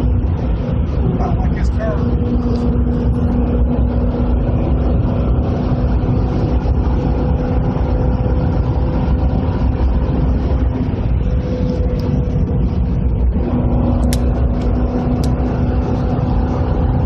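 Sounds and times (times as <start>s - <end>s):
car engine running steadily: 0.0s - 17.0s
road noise rumble: 0.0s - 17.0s.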